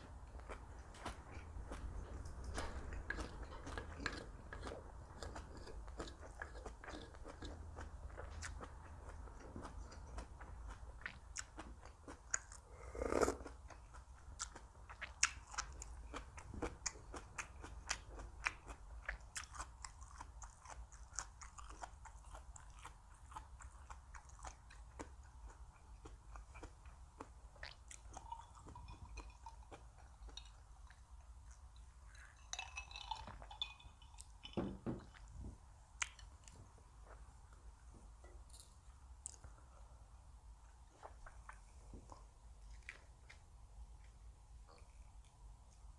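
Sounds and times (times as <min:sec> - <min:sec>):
chewing crunchy raw vegetables: 0:00.0 - 0:35.4, 0:40.8 - 0:45.9.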